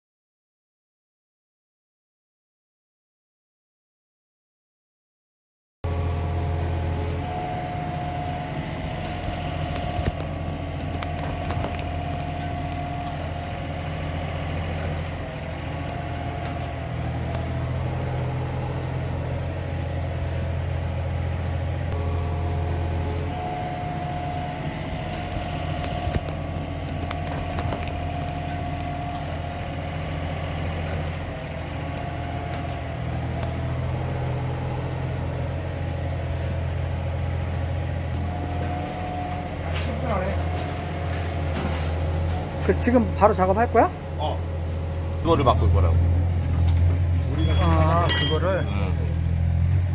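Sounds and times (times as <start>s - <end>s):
engine droning: 5.8s - 49.9s.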